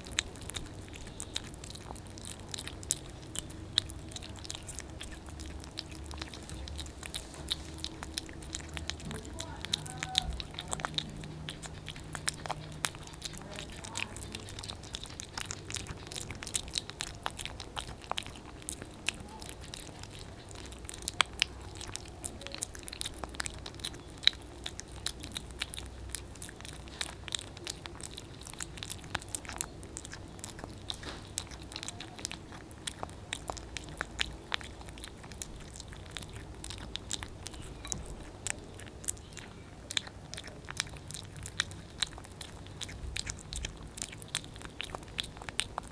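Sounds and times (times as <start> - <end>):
kittens chewing and lapping food: 0.0 - 45.9.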